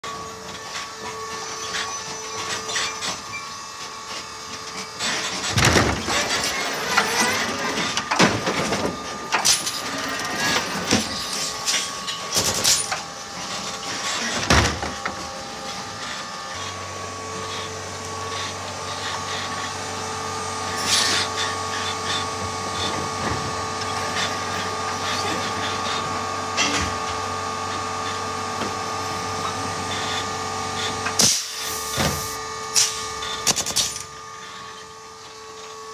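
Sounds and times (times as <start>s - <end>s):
electric whine of motors: 0.0s - 35.9s.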